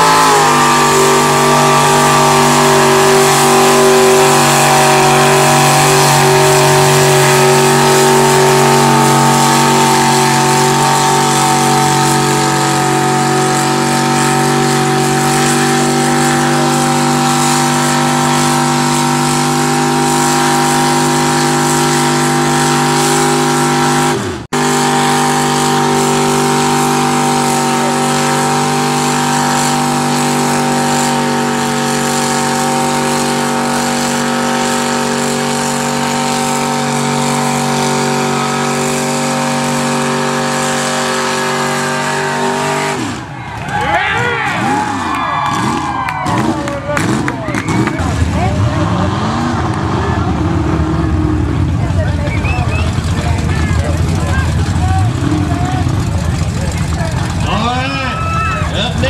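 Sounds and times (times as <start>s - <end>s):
truck engine at high revs: 0.0s - 59.0s.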